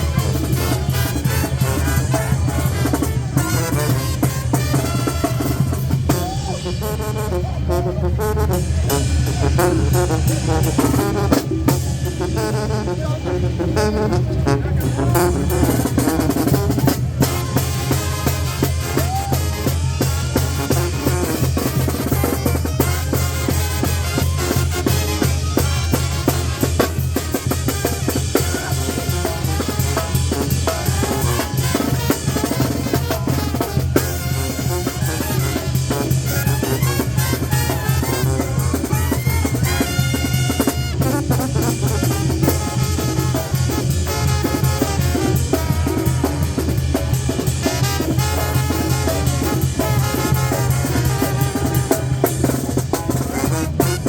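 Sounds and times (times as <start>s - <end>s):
deep bass line: 0.0s - 54.0s
drums beating: 0.0s - 54.0s
live brass band playing: 0.0s - 54.0s.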